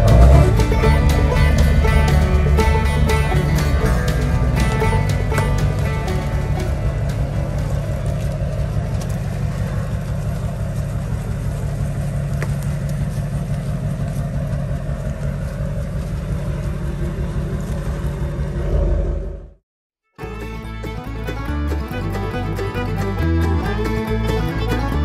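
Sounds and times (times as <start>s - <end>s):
truck engine running: 0.0s - 19.6s, 20.2s - 25.0s.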